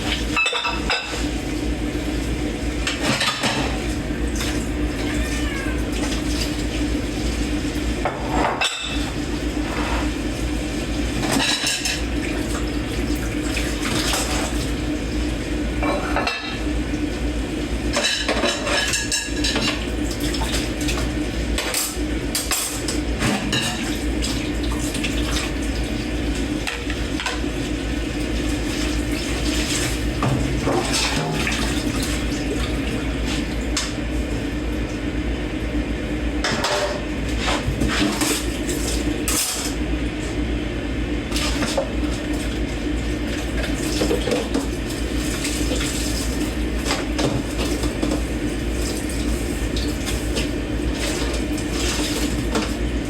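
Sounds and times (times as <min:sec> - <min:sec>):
tap water running: 0:00.0 - 0:35.1, 0:41.3 - 0:53.0.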